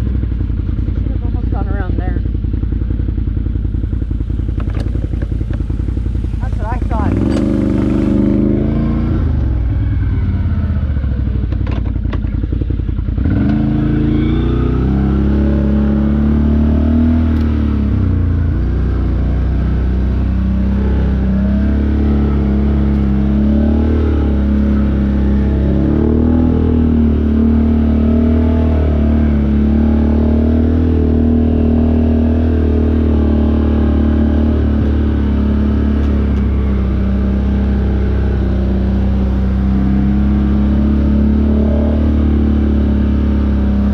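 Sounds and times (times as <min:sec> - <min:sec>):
off-road vehicle engine: 0:00.0 - 0:43.9.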